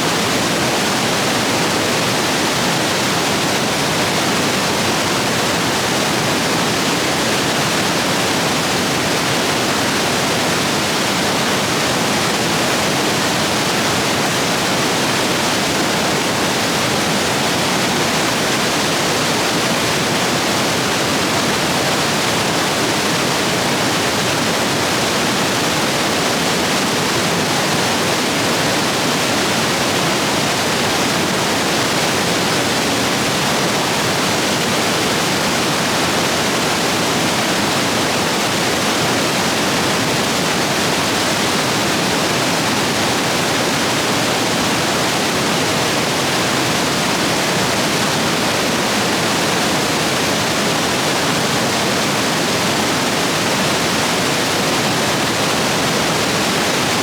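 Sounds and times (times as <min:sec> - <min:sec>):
stream rapids rushing over rocks: 0:00.0 - 0:57.0.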